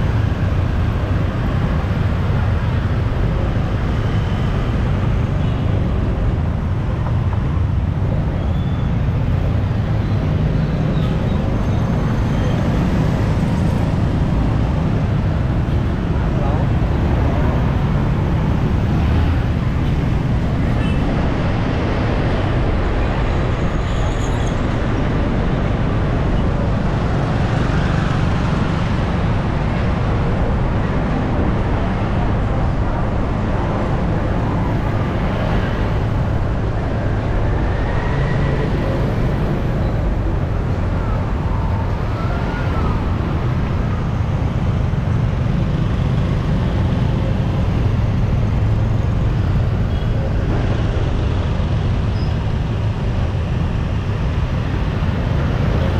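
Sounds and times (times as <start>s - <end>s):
city traffic rumble: 0.0s - 55.9s.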